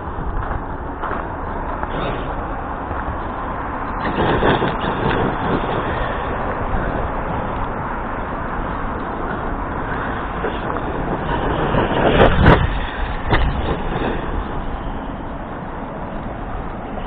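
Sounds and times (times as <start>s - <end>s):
rc truck rushing noise: 0.0s - 17.0s.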